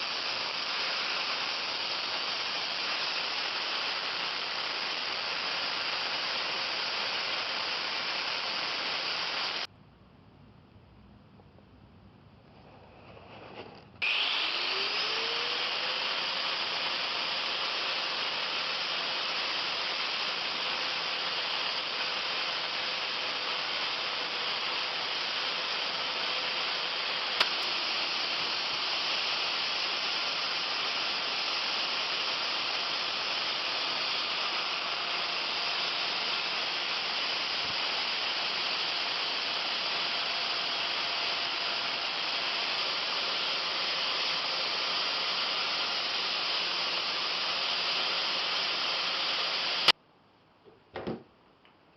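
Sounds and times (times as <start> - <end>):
abrasive rubbing hiss: 0.0 - 9.7, 12.9 - 50.0
power tool motor: 0.0 - 9.7, 14.0 - 50.0.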